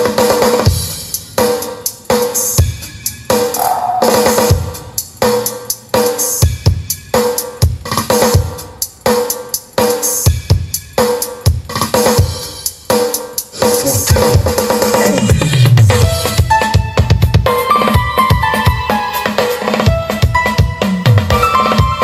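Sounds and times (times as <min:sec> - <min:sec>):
drum-heavy music over speakers: 0:00.0 - 0:22.0.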